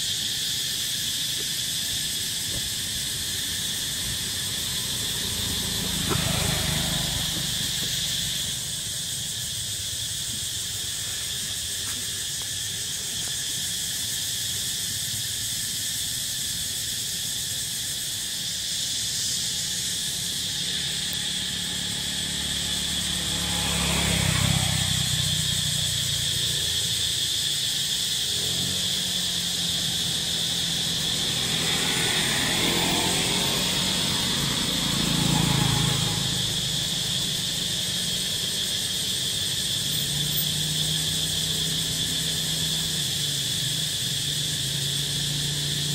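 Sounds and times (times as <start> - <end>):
shrill insect chorus: 0.0 - 45.9.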